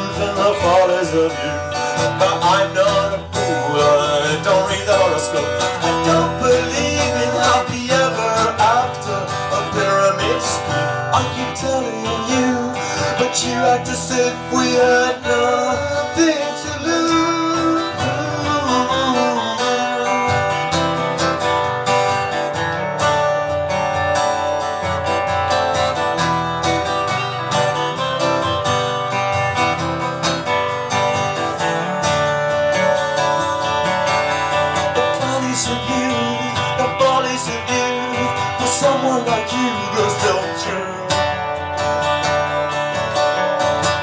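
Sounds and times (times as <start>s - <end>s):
acoustic guitars strumming: 0.0s - 44.0s.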